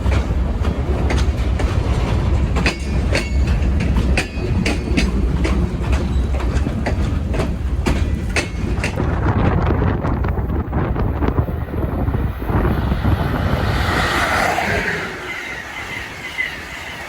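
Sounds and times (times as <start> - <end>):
heavy low train rumble: 0.0 - 17.0
train wheels clicking on rail joints: 0.0 - 17.0.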